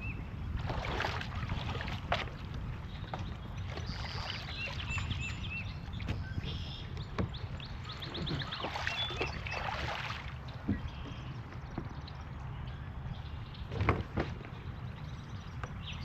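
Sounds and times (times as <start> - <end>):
river water rumble: 0.0 - 16.0
songbirds chirping: 0.0 - 16.0
paddle knocking boat: 0.6 - 16.0.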